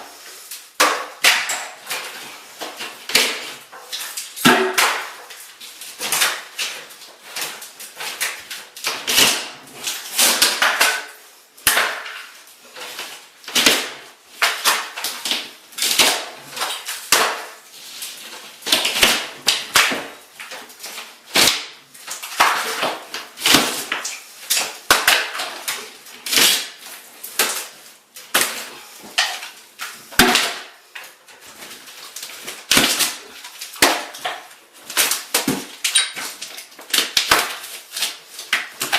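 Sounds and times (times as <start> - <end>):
plaster ceiling cracking and crashing: 0.0 - 38.9.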